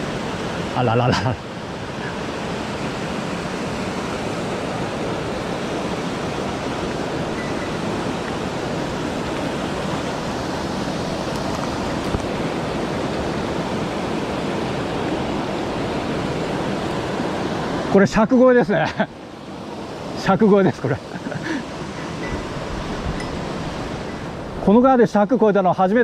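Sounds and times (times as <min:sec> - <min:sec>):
stream rushing over rocks: 0:00.0 - 0:24.8.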